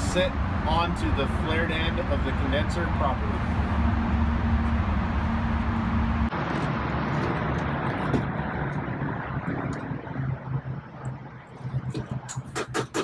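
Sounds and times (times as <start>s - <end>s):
low engine-like rumble: 0.0s - 12.7s.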